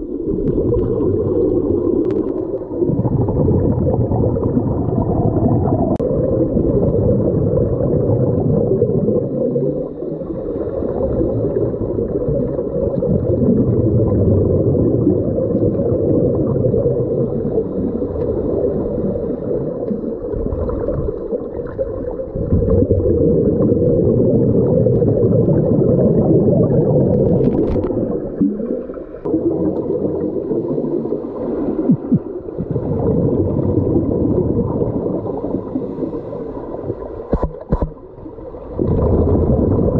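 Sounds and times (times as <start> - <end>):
muffled underwater rumble: 0.0 - 39.9
scuba regulator bubbles: 0.0 - 39.9.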